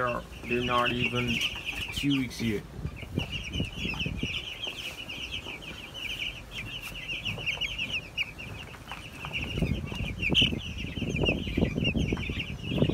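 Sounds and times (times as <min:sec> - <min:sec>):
chicks peeping: 0:00.0 - 0:12.9.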